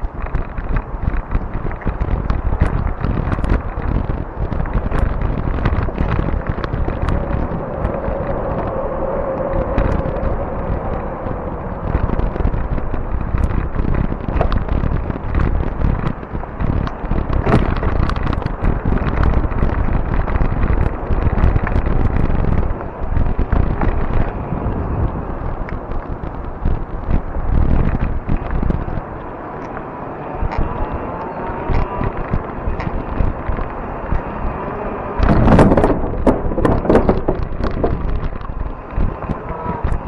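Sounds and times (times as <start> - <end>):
bike clicks and rattles: 0.0 - 40.0
bike tires rumbling on trail: 0.0 - 40.0
wind buffeting microphone: 0.0 - 40.0.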